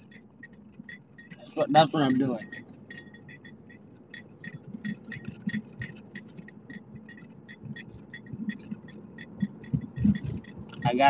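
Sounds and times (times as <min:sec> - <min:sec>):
low rumble of moving car: 0:00.0 - 0:11.0
turn signal ticking: 0:00.0 - 0:11.0.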